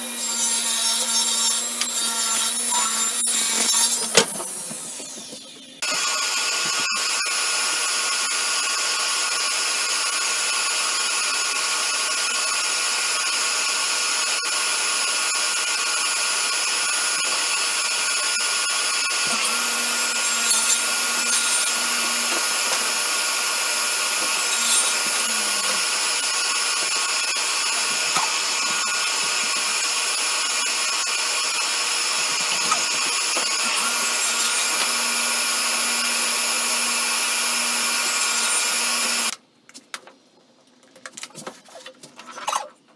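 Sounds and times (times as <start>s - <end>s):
saw cutting wood: 0.0s - 39.4s
table saw motor whine: 0.0s - 39.4s.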